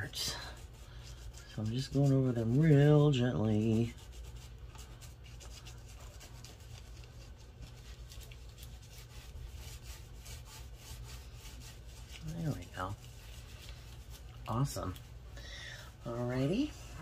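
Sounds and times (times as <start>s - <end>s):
wipe scratching over paper: 0.0s - 17.0s.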